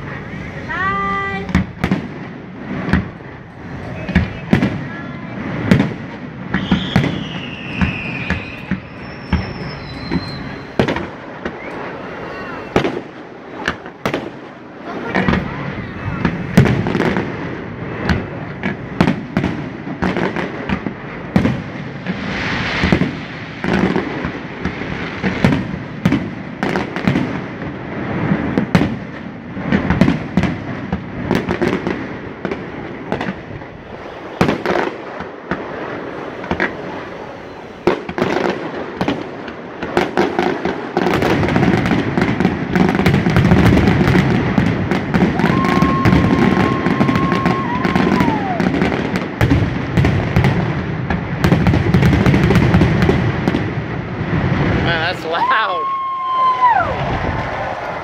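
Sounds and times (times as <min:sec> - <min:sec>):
firework bangs and booms: 0:00.0 - 0:58.0
fireworks crackling: 0:00.0 - 0:58.0.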